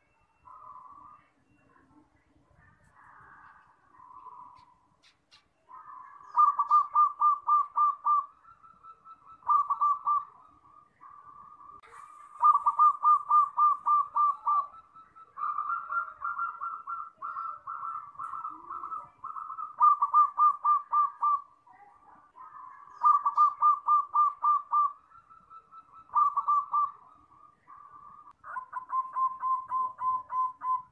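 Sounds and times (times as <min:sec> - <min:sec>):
dove cooing: 0:00.0 - 0:30.9.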